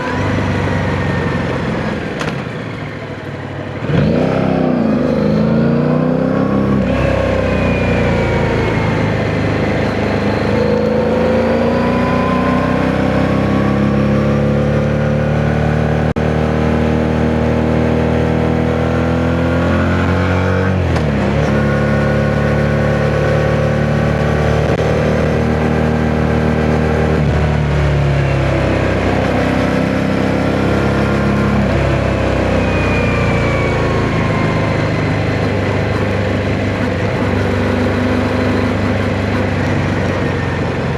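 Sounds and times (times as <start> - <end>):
motorcycle engine under way: 0.0 - 40.9.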